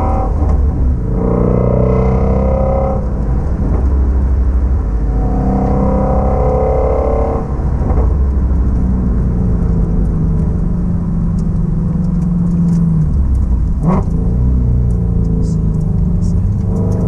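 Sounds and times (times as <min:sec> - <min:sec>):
car engine cruising: 0:00.0 - 0:17.0.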